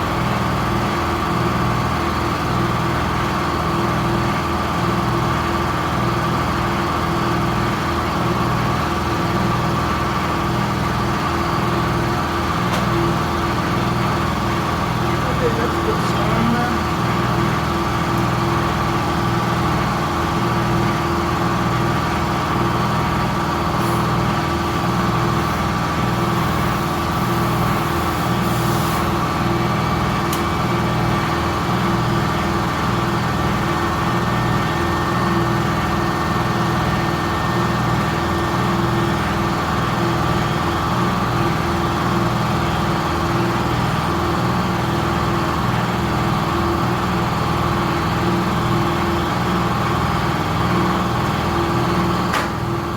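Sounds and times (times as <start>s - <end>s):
air compressor motor drone: 7.7s - 52.9s.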